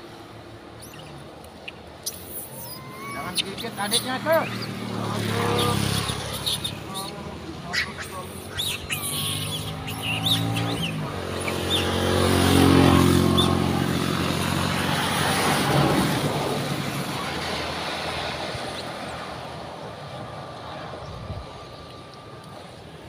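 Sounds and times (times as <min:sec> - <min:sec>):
motorcycles passing: 0:00.0 - 0:23.0.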